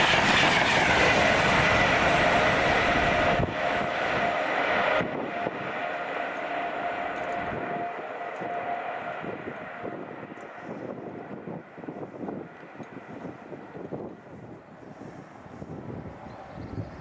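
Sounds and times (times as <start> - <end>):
train rumbling with whine: 0.0 - 17.0.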